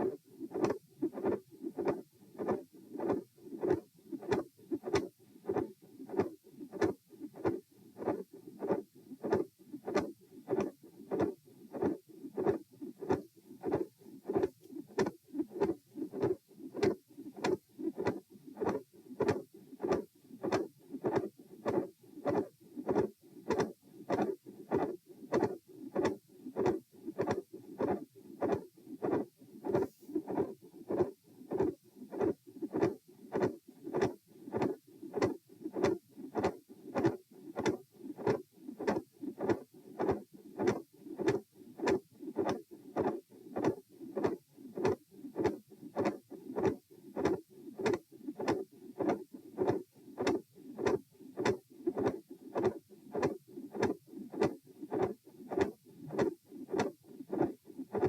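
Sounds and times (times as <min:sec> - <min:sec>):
heartbeat through stethoscope: 0:00.0 - 0:58.0.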